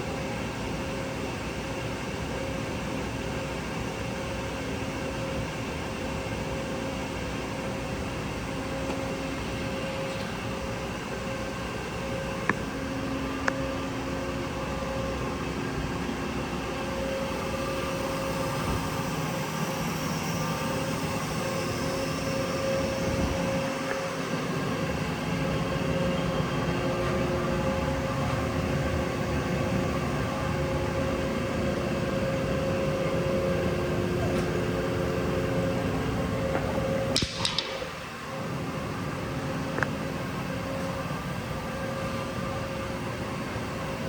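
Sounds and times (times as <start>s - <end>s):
lathe mechanical hum: 0.0s - 44.0s.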